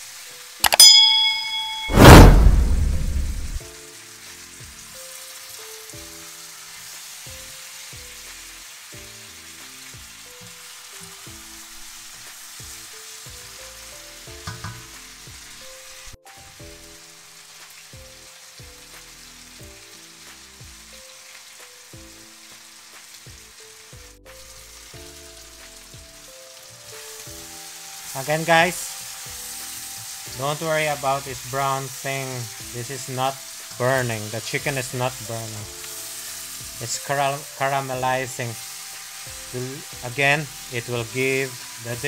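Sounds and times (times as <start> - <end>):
food sizzling in a wok: 0.0 - 42.0.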